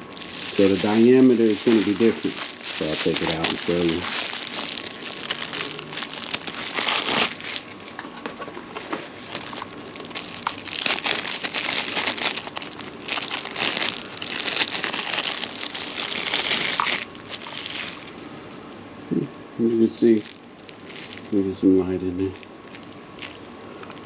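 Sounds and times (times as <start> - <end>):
plastic packaging crinkling: 0.0 - 18.3, 20.0 - 24.0.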